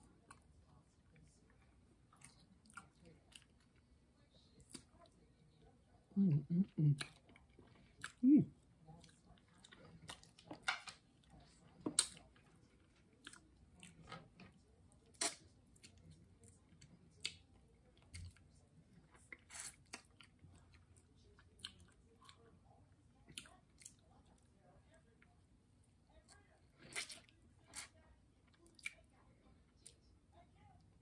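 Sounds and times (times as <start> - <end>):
chewing and lip smacking: 0.0 - 5.3, 6.6 - 25.3, 26.2 - 30.0.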